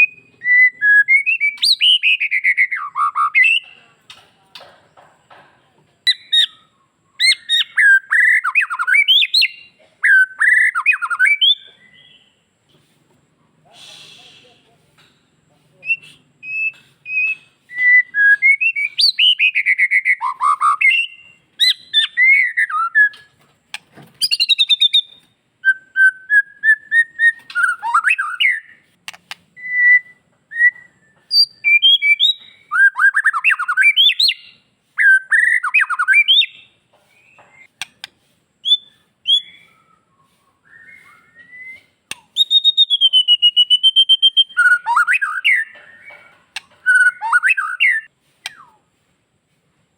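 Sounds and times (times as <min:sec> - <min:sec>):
songbird singing varied song: 0:00.0 - 0:12.7, 0:15.7 - 0:49.0.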